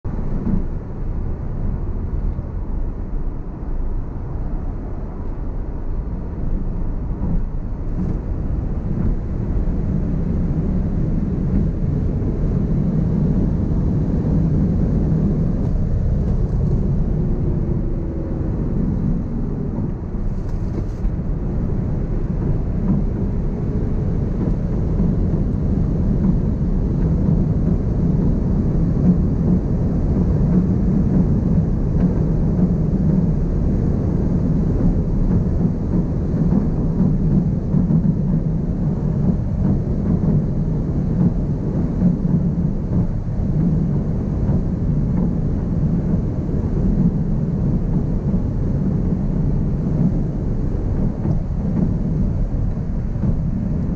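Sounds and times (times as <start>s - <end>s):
wind noise in car cabin: 0.0s - 53.9s.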